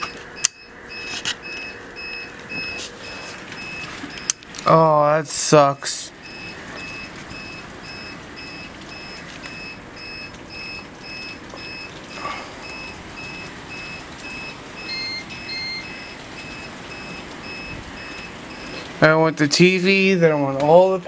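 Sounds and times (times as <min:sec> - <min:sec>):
electronic alarm beeping: 0:00.0 - 0:04.8, 0:06.1 - 0:19.1
second device beeping: 0:00.0 - 0:04.8, 0:06.2 - 0:18.8.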